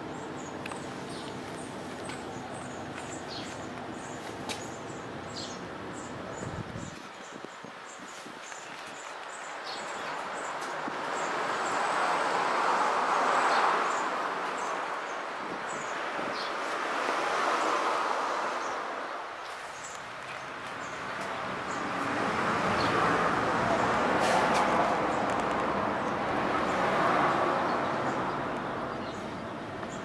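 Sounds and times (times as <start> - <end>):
road traffic passing: 0.0 - 7.2, 7.8 - 30.0.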